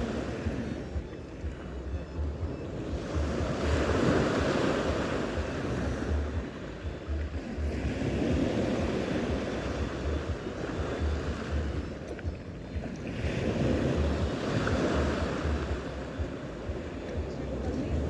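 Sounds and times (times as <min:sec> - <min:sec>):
sea waves breaking: 0:00.0 - 0:18.0
wind buffeting microphone: 0:00.0 - 0:18.0.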